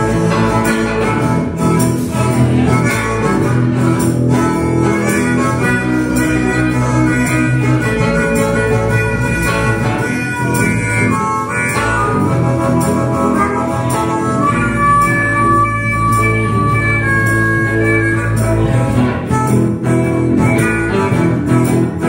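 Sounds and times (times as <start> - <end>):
blues harmonica: 0.0 - 22.0
live band with electric guitar: 0.0 - 22.0.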